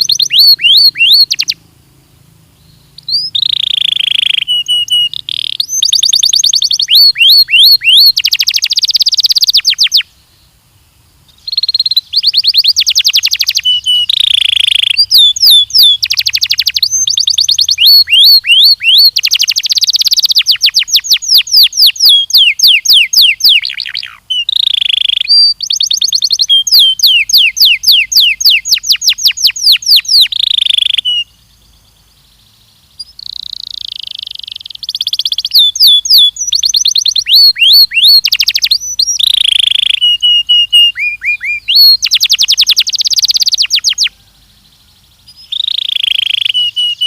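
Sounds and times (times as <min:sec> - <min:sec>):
canary singing: 0:00.0 - 0:01.7, 0:02.6 - 0:10.2, 0:11.3 - 0:47.0.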